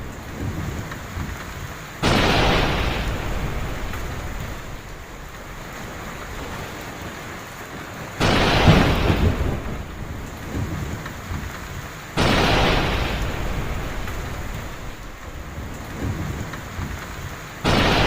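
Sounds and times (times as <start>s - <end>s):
heavy rain falling: 0.0s - 18.0s
thunder claps rumbling: 0.0s - 18.0s.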